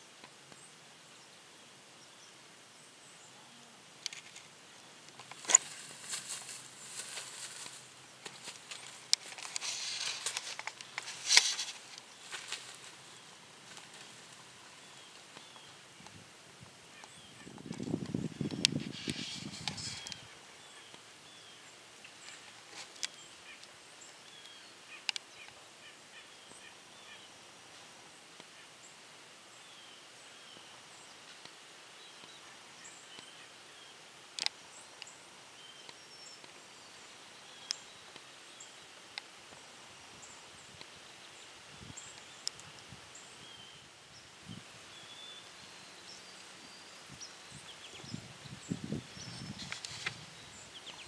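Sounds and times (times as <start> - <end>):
faint background hiss: 0.0 - 51.0.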